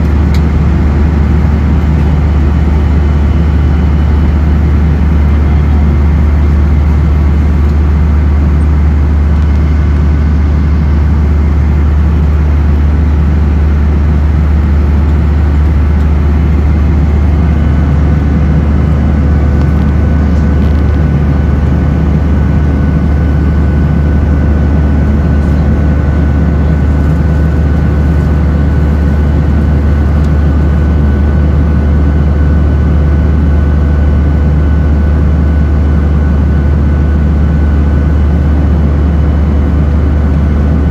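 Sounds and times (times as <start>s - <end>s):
faint steady whine: 0.0s - 40.9s
jet engine cabin drone: 0.0s - 40.9s.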